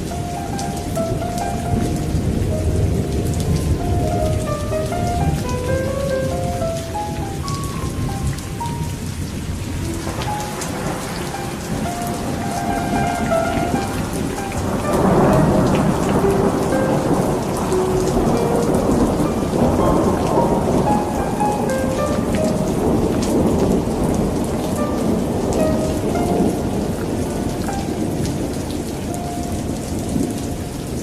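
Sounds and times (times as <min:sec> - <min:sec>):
heavy rain: 0:00.0 - 0:31.0
soft melody of held notes: 0:00.0 - 0:31.0
thunder rolling: 0:00.0 - 0:31.0.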